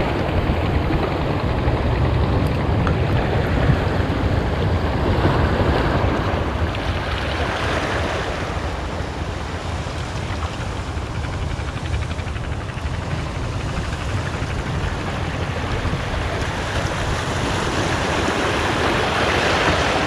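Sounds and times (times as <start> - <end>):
waves washing against breakwater: 0.0 - 20.0
wind buffeting microphone: 0.0 - 20.0.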